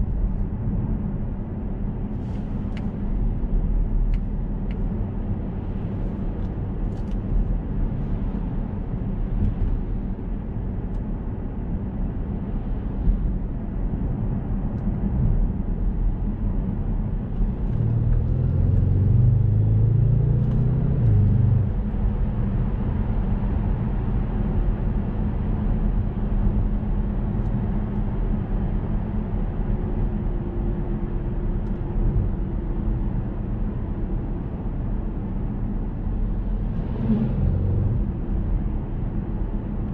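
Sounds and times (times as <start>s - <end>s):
car engine from inside cabin: 0.0s - 39.9s.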